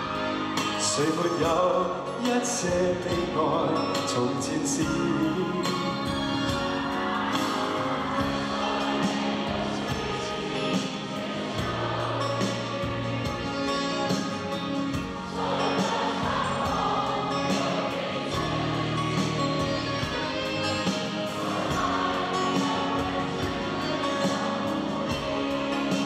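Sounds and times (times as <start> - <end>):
crowd singing in unison: 0.0 - 26.0
live band playing: 0.0 - 26.0.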